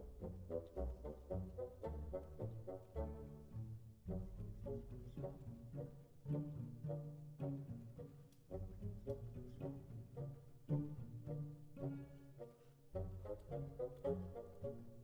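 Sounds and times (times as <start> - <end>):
orchestral strings music: 0.0 - 15.0.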